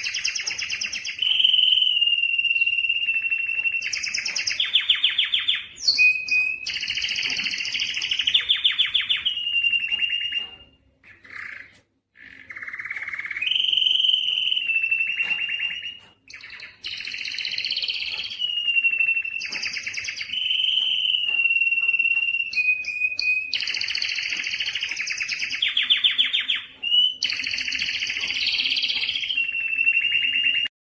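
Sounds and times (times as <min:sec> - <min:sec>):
canary singing trills: 0:00.0 - 0:30.7.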